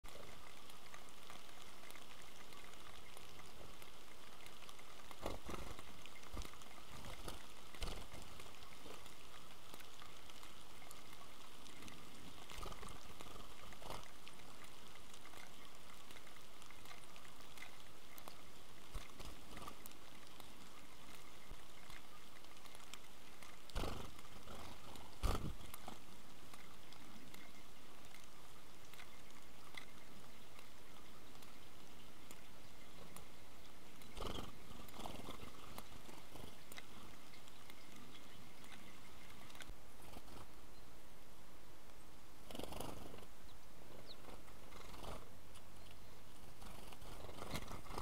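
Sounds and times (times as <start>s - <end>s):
rain on stone and leaves: 0.0s - 48.0s.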